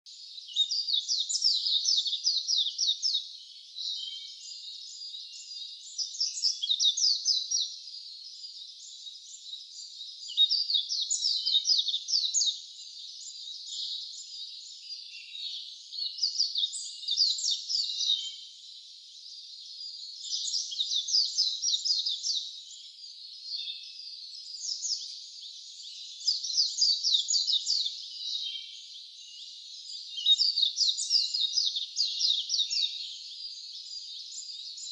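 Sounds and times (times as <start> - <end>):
loud bird song of falling notes: 0.1 - 34.9
soft bird chirping: 0.1 - 34.9.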